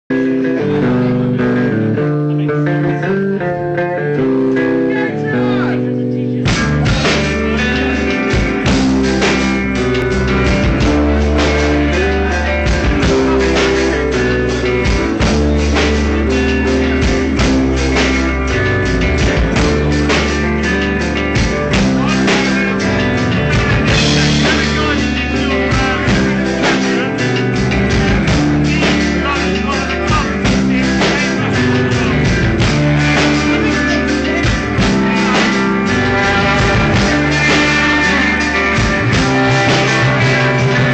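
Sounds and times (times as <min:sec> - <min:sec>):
live rock band playing: 0:00.1 - 0:40.9.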